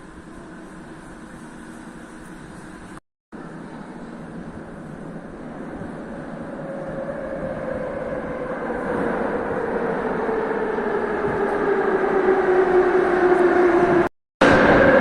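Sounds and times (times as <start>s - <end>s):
metro train braking: 0.0s - 15.0s.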